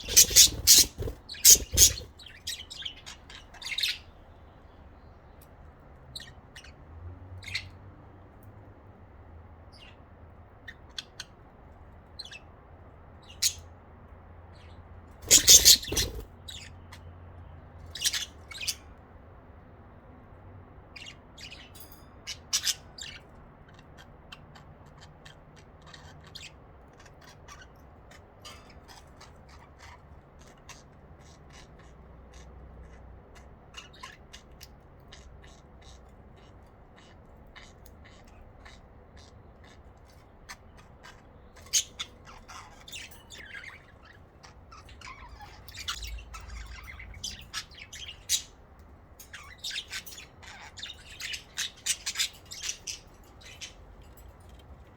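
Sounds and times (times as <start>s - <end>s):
budgerigars chirping and squawking: 0.0s - 4.8s, 6.1s - 7.8s, 9.6s - 13.8s, 14.5s - 17.1s, 17.7s - 19.1s, 20.8s - 54.9s.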